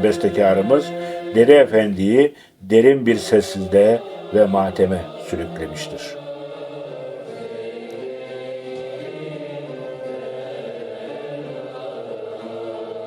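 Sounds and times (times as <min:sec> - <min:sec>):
choir singing long held notes: 0:00.0 - 0:13.0.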